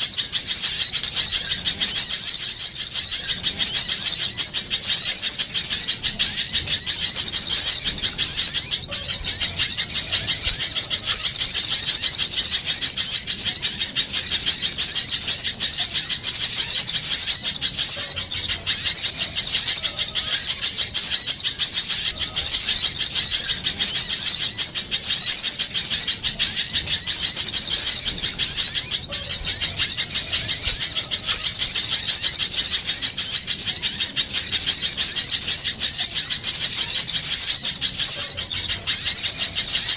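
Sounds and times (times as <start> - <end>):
songbirds twittering and chirping: 0.0 - 39.9.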